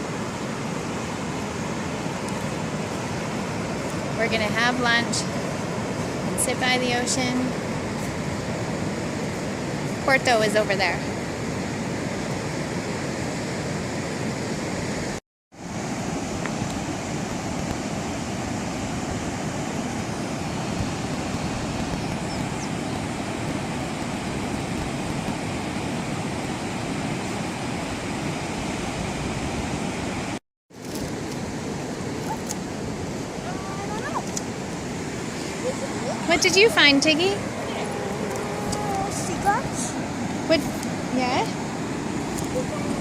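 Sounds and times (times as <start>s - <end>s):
ocean surf washing: 0.0s - 43.0s.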